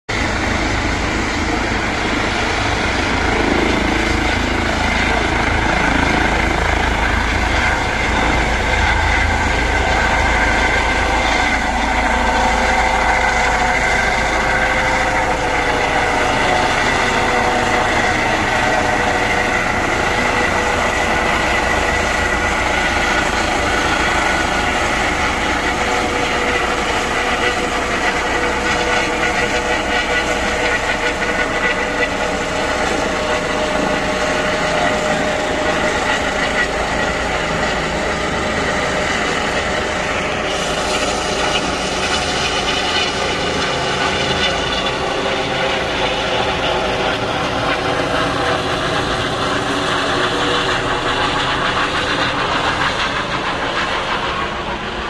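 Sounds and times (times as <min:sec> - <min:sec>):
helicopter rotor noise: 0:00.1 - 0:55.0
helicopter turbine whine: 0:00.1 - 0:55.0.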